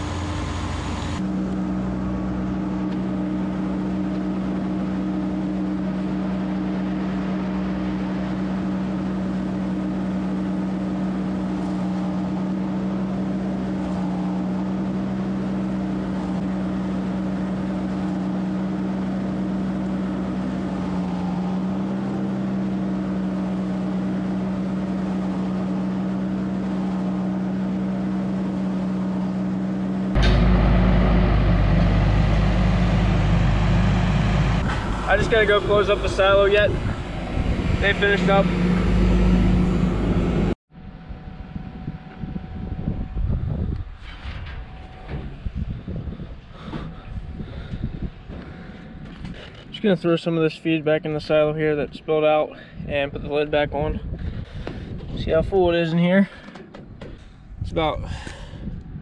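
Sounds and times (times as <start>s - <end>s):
forage blower humming: 0.0s - 49.7s.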